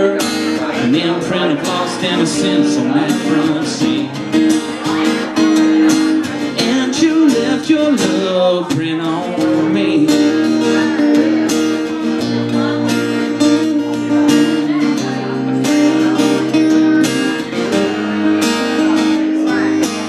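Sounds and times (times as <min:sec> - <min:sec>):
acoustic guitars strumming: 0:00.0 - 0:20.0.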